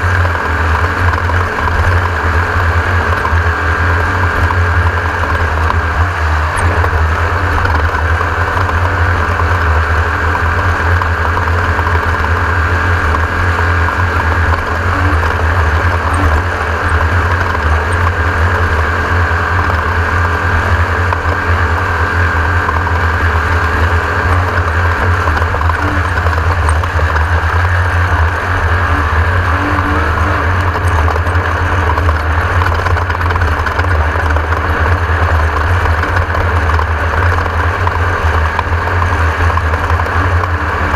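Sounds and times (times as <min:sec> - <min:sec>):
race buggy engine running loud: 0:00.0 - 0:40.9.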